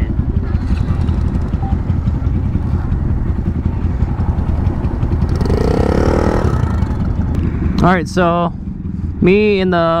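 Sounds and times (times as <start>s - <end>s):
motorcycle accelerating: 0.0s - 10.0s
motorcycle engine rumble: 0.0s - 10.0s.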